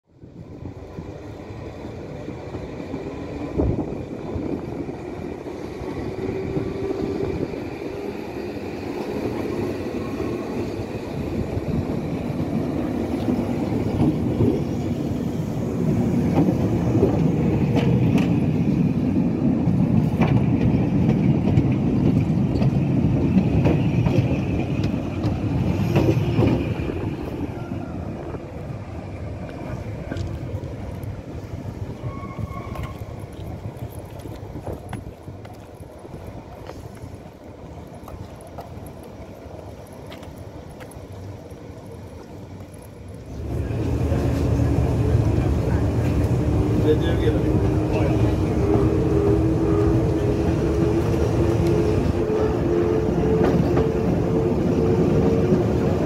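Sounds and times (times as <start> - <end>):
train wheels rumbling and clicking: 0.2 - 56.0.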